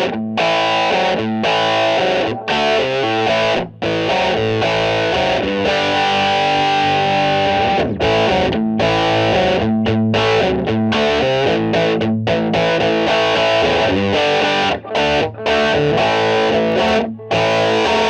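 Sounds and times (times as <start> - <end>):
distorted electric guitar chords: 0.0 - 18.0.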